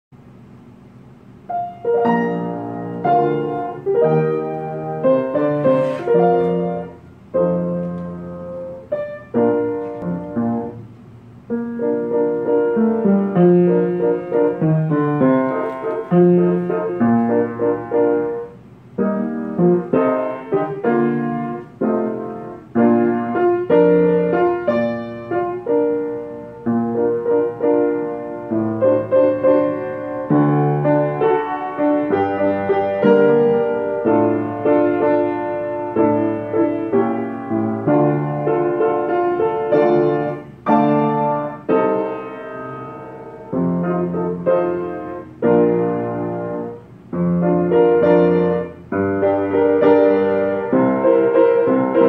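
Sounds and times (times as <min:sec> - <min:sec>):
piano accompaniment chords: 0:00.2 - 0:52.0.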